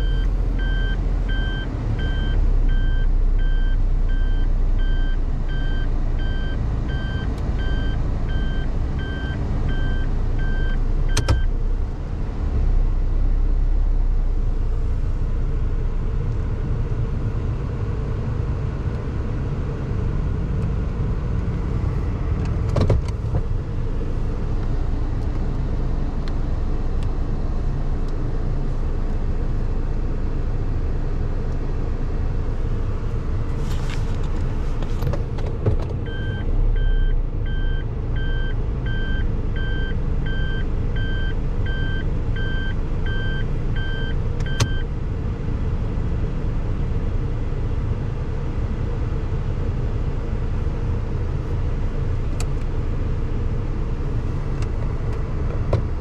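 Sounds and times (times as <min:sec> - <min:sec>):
car engine rumble from inside: 0:00.0 - 0:56.0.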